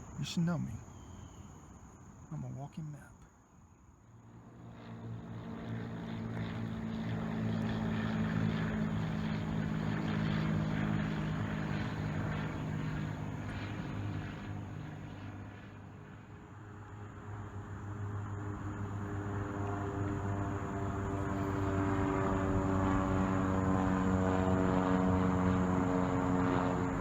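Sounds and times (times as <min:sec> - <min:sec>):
passing engine drone: 0:04.2 - 0:27.0.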